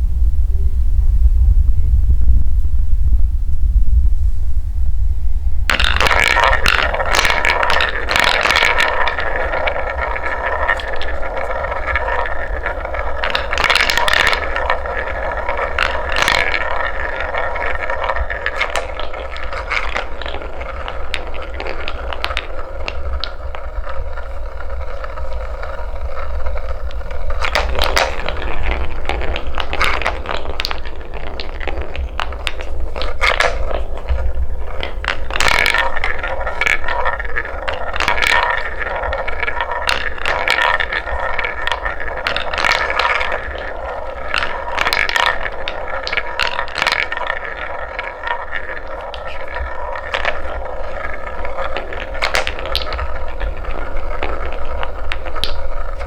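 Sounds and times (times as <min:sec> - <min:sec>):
low hum: 0:00.0 - 0:56.0
wooden balls rolling on a track: 0:05.0 - 0:56.0
balls clacking: 0:05.3 - 0:56.0.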